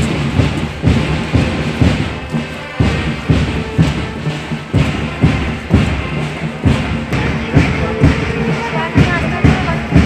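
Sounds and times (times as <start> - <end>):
bass drum beating: 0.0 - 10.0
march music: 0.0 - 10.0.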